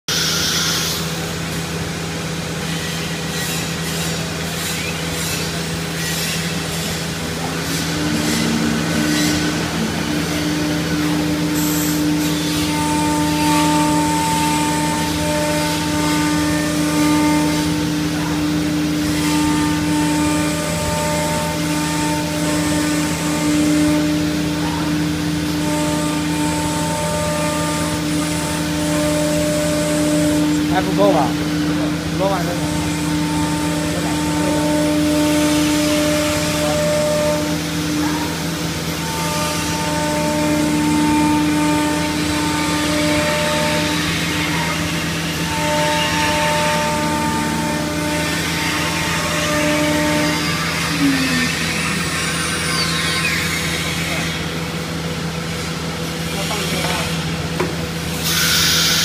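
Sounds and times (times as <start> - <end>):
cnc router machine hum: 0.0 - 59.0
spindle whine: 0.3 - 55.9.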